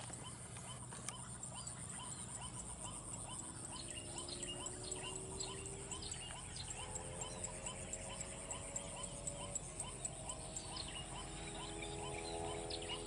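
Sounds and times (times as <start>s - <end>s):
birds calling: 0.0s - 13.0s
faint low drone rising in pitch: 0.0s - 13.0s
steady high-pitched whine: 0.0s - 13.0s.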